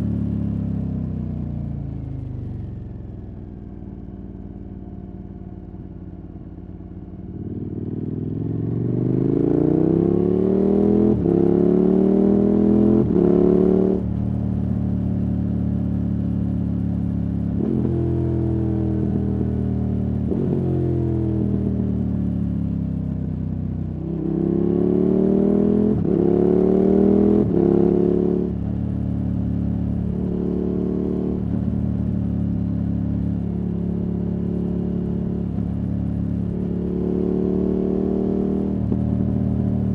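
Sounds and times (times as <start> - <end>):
motorcycle engine accelerating: 6.0 - 39.9.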